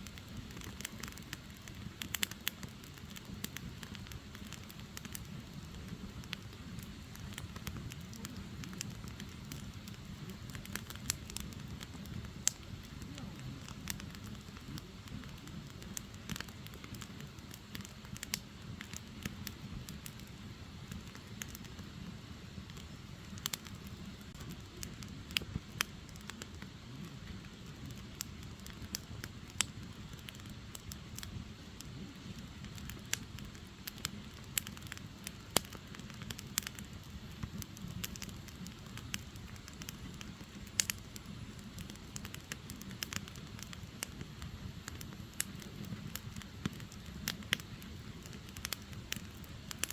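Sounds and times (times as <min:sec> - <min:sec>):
logs burning with crackles: 0:00.0 - 0:49.9.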